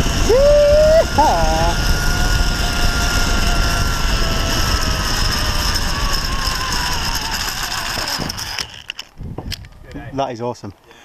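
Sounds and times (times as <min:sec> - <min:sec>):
zip-line pulleys running on cable: 0:00.0 - 0:09.1
wind rumble on microphone: 0:00.0 - 0:10.3.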